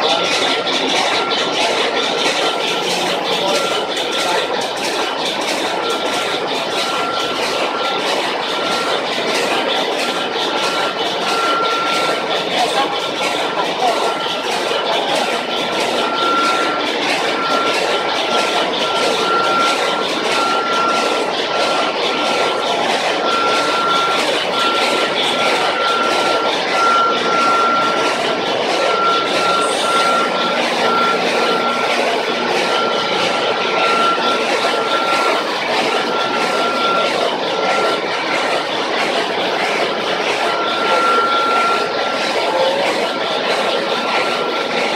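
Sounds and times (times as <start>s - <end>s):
engine-room machinery din: 0.0s - 44.9s
high-pitched beep: 0.0s - 44.9s.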